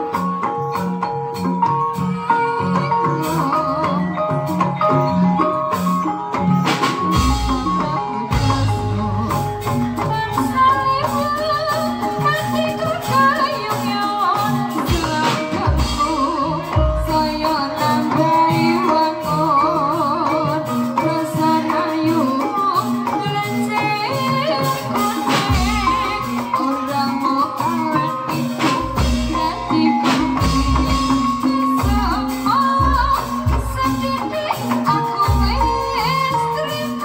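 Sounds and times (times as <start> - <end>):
gamelan percussion and drums: 0.0 - 37.0
wavering high melody: 0.0 - 37.0.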